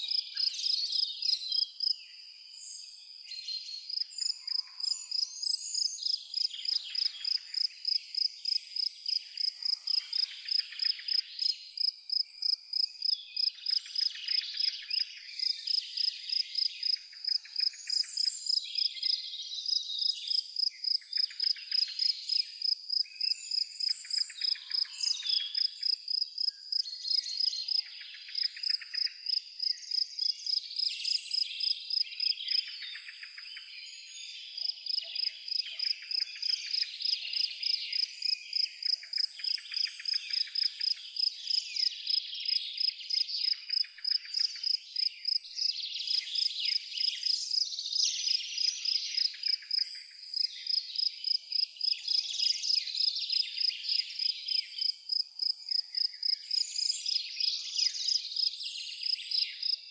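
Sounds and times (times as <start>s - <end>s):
birds singing: 0.0s - 59.9s
cricket chirping: 0.1s - 3.2s, 3.8s - 59.9s.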